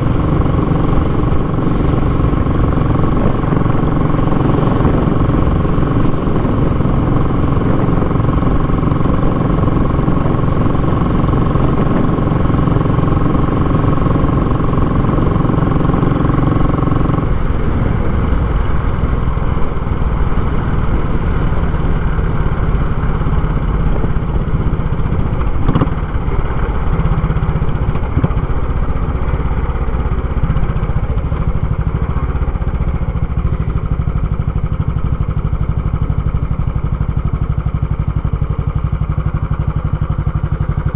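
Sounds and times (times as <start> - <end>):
motorcycle engine thumping exhaust: 0.0 - 40.9.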